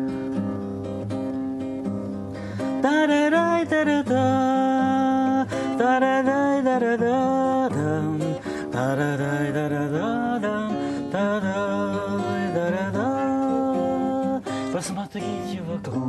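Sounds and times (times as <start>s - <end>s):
acoustic guitar playing: 0.0s - 16.0s
man singing: 2.6s - 16.0s.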